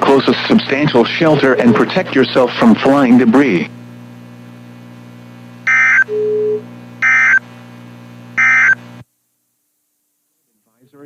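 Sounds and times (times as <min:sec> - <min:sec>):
steady hum: 0:00.0 - 0:09.2.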